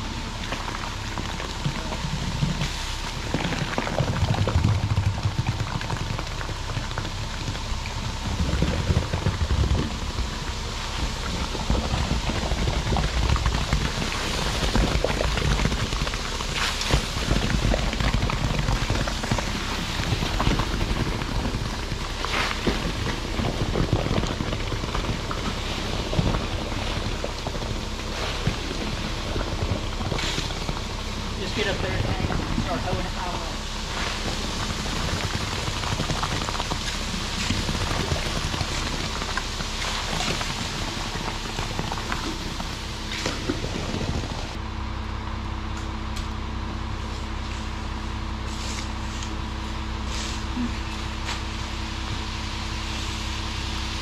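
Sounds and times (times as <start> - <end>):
slurry pouring and splashing: 0.0 - 44.6
low rumble: 0.0 - 54.0.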